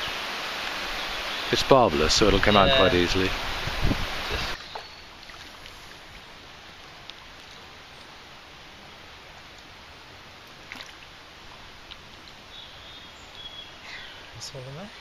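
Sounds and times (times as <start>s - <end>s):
river water running over riffle: 0.0s - 14.8s.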